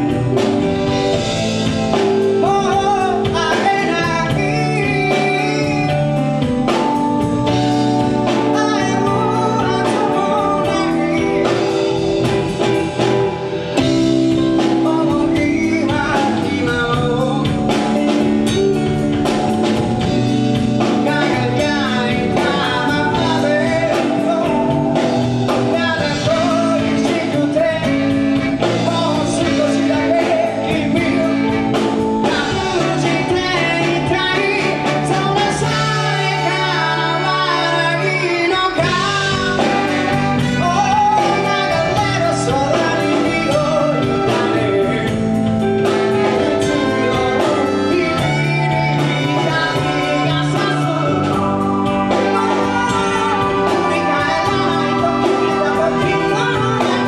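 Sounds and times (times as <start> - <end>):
bass: 0.0 - 57.0
drums: 0.0 - 57.0
guitar: 0.0 - 57.0
lead vocalist singing: 0.0 - 57.0.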